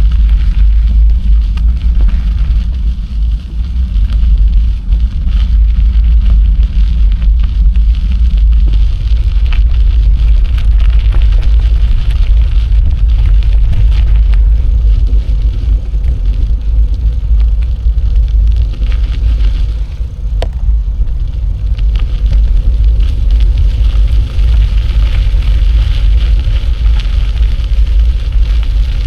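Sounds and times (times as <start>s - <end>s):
bicycle tyres ticking on path: 0.0s - 29.0s
wind buffeting microphone: 0.0s - 29.0s.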